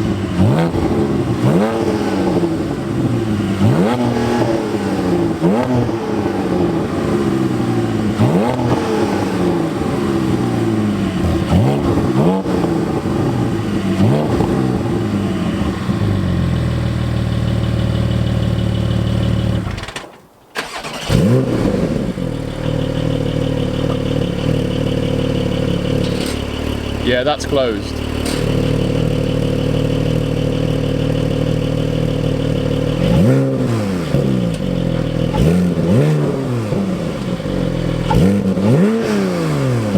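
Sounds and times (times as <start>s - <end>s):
sports car engine revving: 0.0s - 19.7s, 20.7s - 39.9s.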